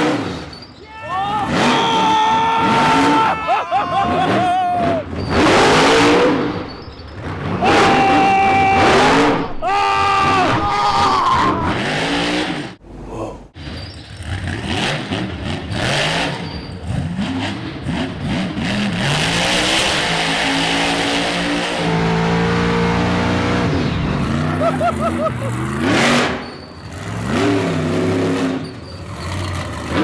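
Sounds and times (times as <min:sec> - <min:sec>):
truck engine revving: 0:00.0 - 0:00.7, 0:01.4 - 0:09.6, 0:10.2 - 0:30.0.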